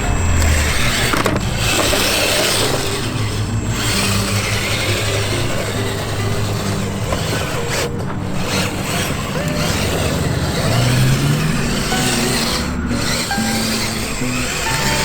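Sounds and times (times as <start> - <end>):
background music held notes: 0.0 - 15.0
steady rough noise: 0.0 - 15.0.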